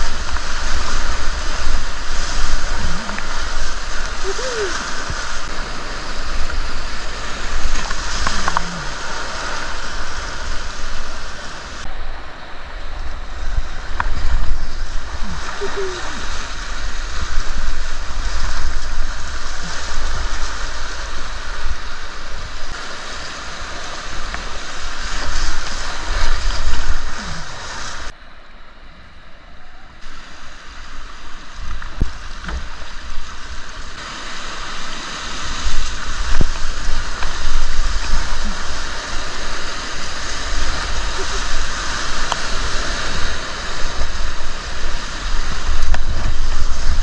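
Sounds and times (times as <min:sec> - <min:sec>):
rushing river water: 0:00.0 - 0:47.0
wind rumbling on microphone: 0:00.0 - 0:47.0.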